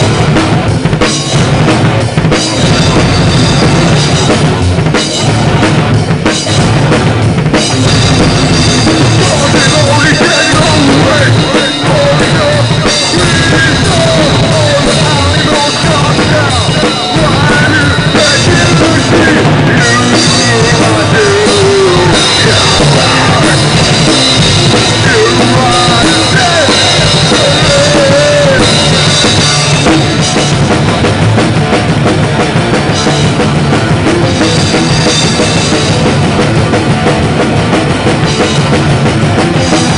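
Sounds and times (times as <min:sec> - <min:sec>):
bass drum: 0:00.0 - 0:39.9
drum kit played hard: 0:00.0 - 0:39.9
live rock band: 0:00.0 - 0:39.9.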